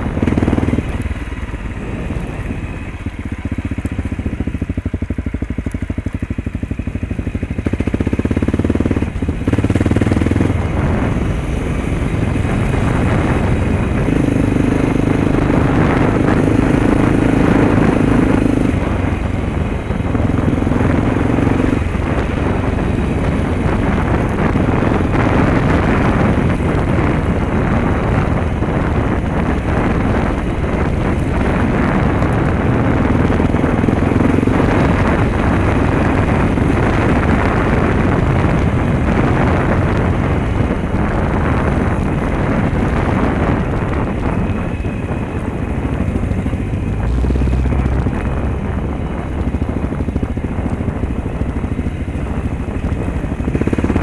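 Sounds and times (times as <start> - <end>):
dirt bike engine running: 0.0 - 54.0
wind buffeting microphone: 0.0 - 54.0.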